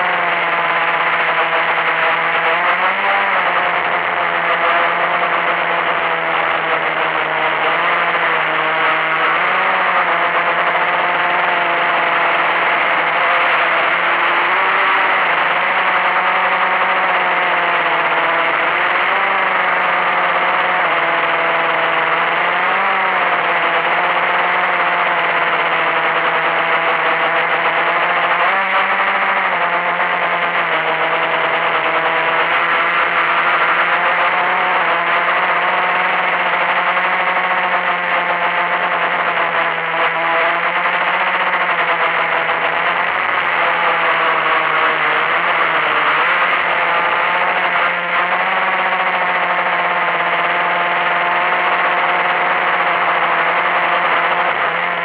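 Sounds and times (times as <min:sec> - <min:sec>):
quadcopter motors whirring: 0:00.0 - 0:55.0.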